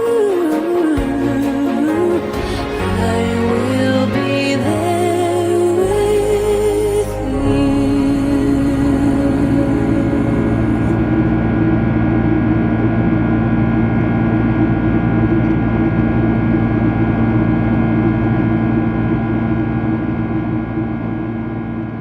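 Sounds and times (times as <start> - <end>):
ambient gong-like drone music: 0.0 - 22.0.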